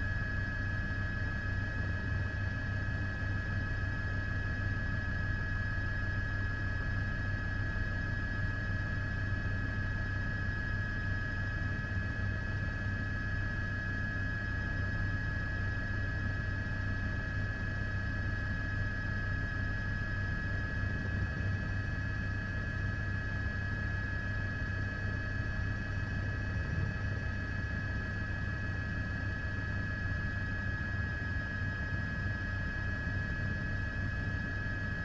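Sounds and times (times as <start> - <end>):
helicopter drone: 0.0 - 35.0.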